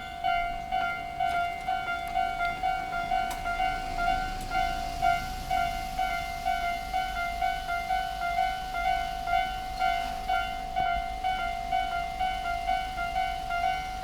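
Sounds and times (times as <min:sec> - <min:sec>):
level crossing alarm dinging: 0:00.0 - 0:14.0.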